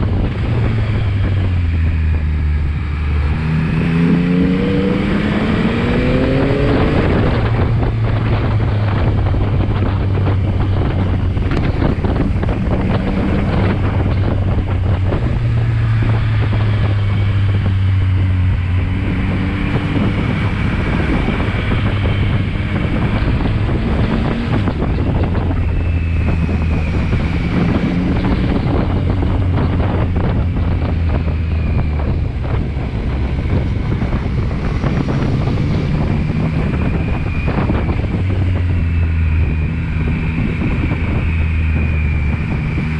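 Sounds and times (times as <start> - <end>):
motorcycle engine: 0.0 - 42.9
wind noise on microphone: 0.0 - 42.9.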